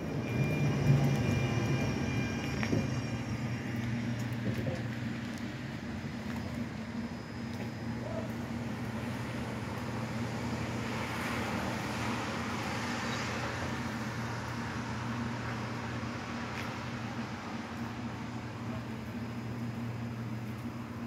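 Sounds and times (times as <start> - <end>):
tram equipment humming: 0.0 - 21.0.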